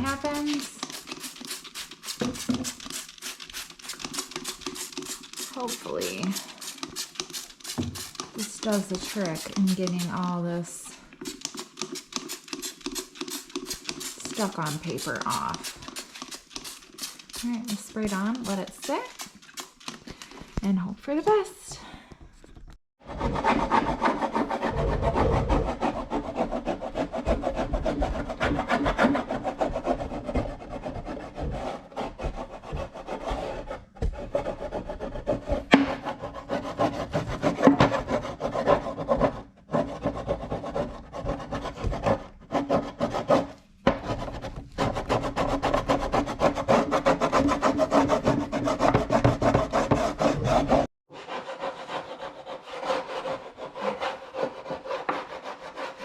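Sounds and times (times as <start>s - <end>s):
hand scraper rasping on wood: 0.0s - 10.4s, 11.2s - 19.9s, 23.1s - 56.0s.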